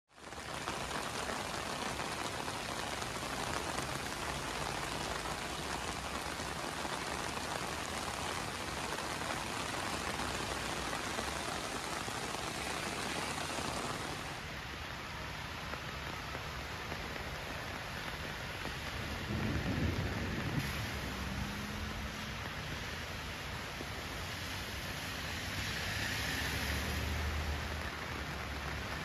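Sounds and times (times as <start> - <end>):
heavy rain on a road: 0.1 - 29.0.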